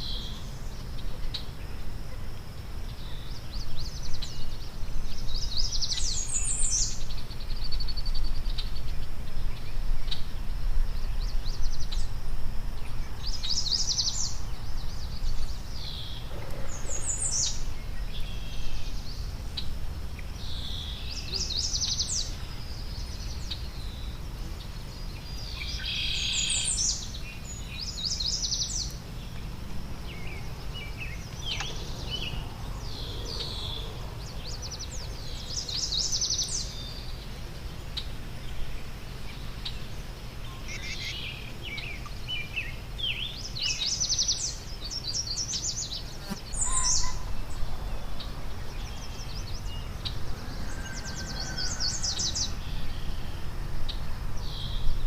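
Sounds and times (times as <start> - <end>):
songbirds singing and calling: 0.0 - 55.0.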